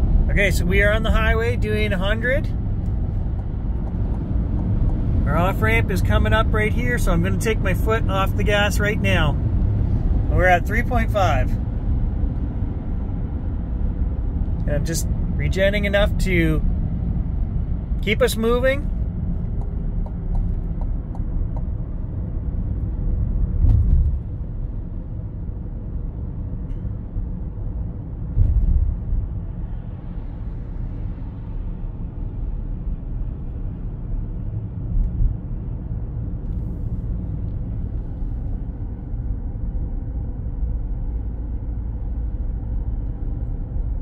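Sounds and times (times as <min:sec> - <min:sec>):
road and tyre rumble in car: 0:00.0 - 0:44.0.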